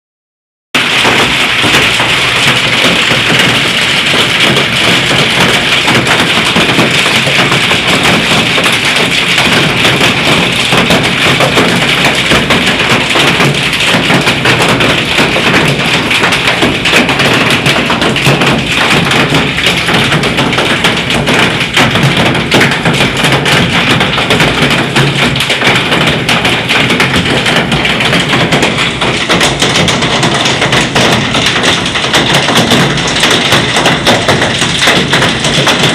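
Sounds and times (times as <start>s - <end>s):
hailstones clattering on hard surfaces: 0.8s - 35.9s.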